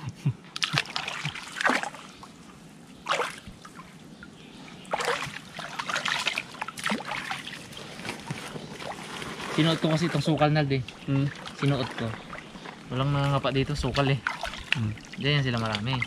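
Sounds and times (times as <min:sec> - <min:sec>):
muddy water sloshing and splashing: 0:00.5 - 0:16.0.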